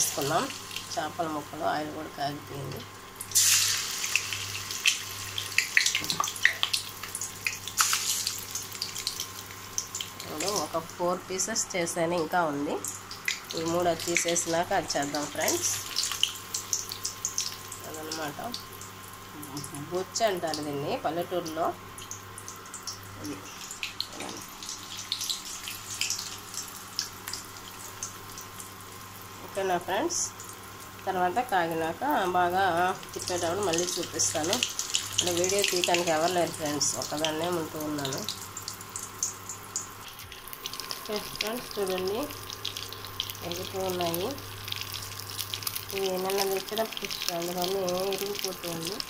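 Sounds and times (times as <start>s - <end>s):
fish sizzling in oil: 0.0s - 49.0s.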